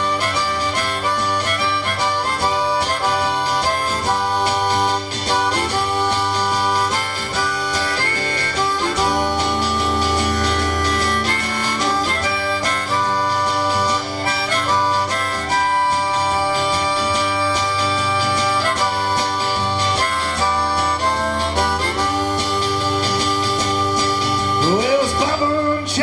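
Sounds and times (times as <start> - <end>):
bass: 0.0 - 26.0
harmonica solo: 0.0 - 26.0
strummed guitar: 0.0 - 26.0.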